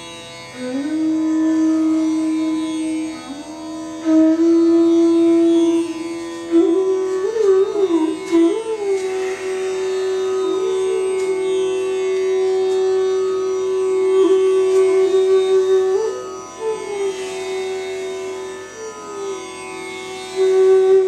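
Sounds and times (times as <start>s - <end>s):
sliding melody of held notes: 0.0s - 21.0s.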